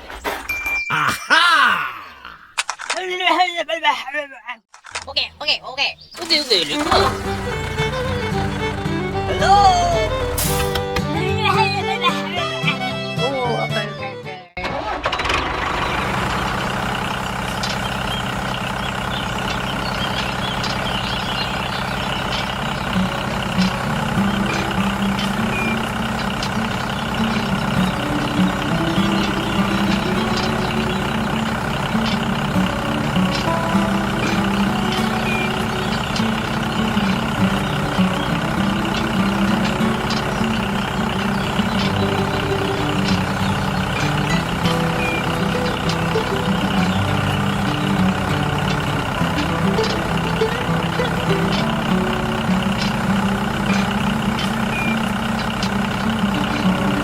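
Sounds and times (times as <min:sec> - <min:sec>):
small engine droning: 0:06.2 - 0:14.0, 0:14.8 - 0:57.0.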